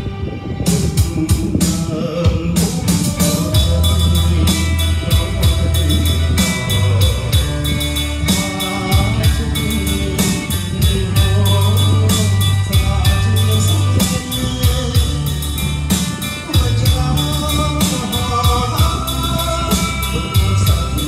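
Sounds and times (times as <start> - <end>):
loud music with drum beat and bass: 0.6 - 21.0.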